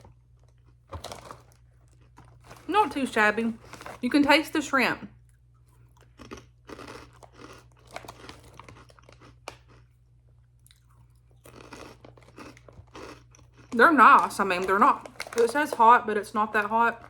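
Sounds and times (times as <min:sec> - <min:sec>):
chewing crunchy chips: 0:00.0 - 0:04.4, 0:05.1 - 0:17.0.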